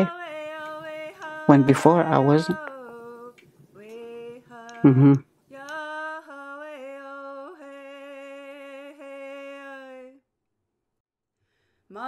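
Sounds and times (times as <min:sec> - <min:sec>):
woman singing long notes: 0:00.0 - 0:10.2.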